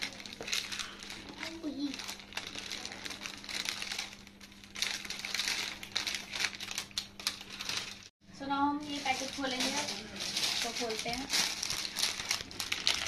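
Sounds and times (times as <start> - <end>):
plastic packaging crinkling: 0.0 - 8.1, 8.8 - 13.0.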